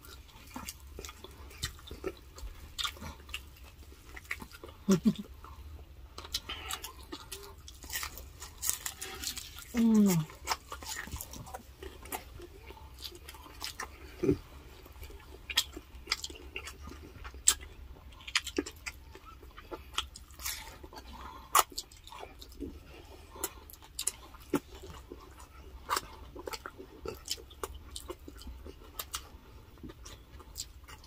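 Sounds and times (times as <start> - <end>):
chewing and mouth sounds: 0.0 - 31.0.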